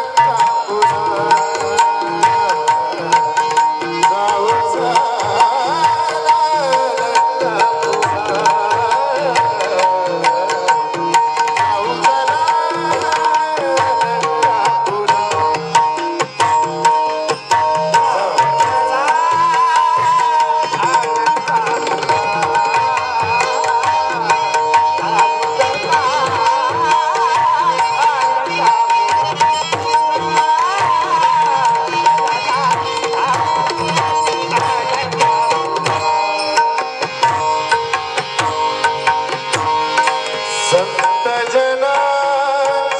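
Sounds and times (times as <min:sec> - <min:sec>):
hand drums: 0:00.0 - 0:42.9.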